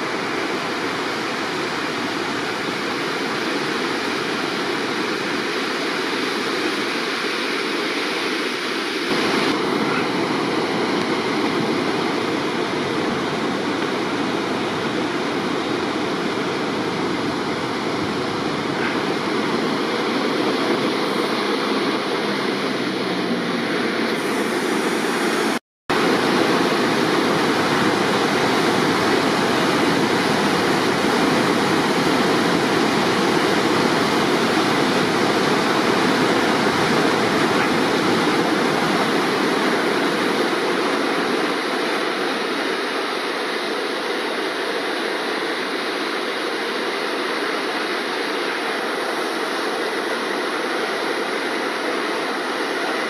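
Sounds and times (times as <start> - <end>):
whitewater rushing over boulders: 0.0 - 53.0.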